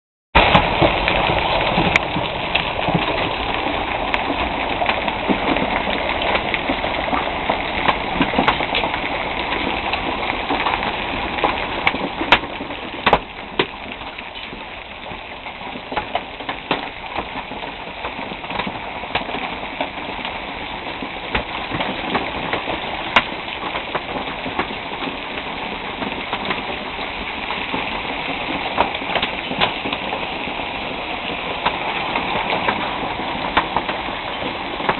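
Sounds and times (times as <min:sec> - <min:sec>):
heavy hail clattering: 0:00.4 - 0:34.9.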